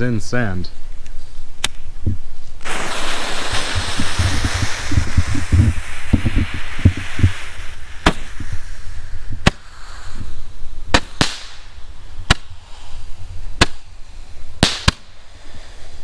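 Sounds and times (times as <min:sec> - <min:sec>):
firework sharp pops: 0:01.6 - 0:16.0
firework hissing: 0:02.6 - 0:16.0.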